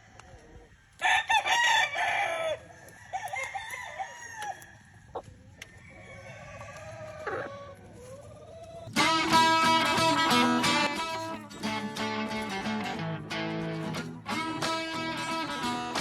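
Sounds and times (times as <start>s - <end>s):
roosters crowing: 0.0s - 16.0s.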